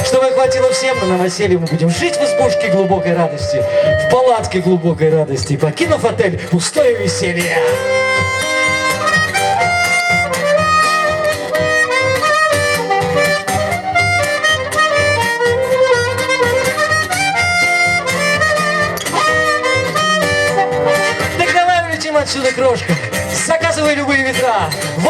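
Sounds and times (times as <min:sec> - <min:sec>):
live band playing: 0:00.0 - 0:25.0.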